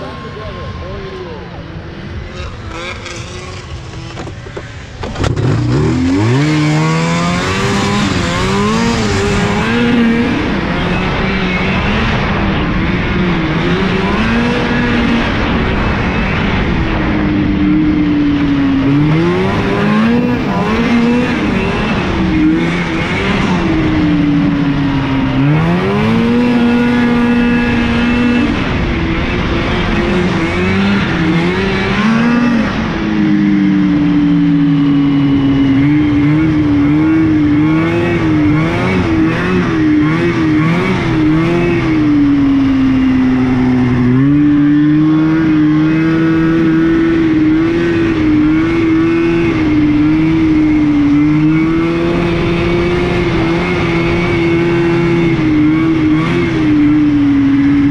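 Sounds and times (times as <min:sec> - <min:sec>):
snowmobile engine: 0:00.0 - 0:57.9.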